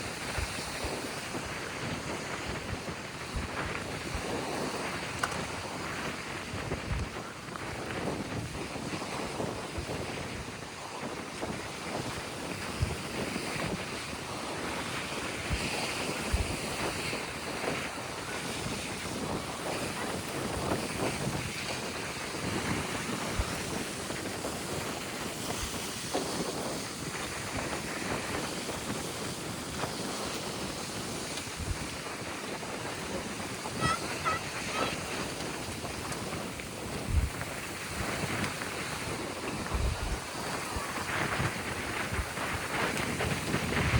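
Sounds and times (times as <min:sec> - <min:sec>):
surf breaking and washing ashore: 0:00.0 - 0:43.9
wind buffeting the microphone: 0:00.0 - 0:43.9.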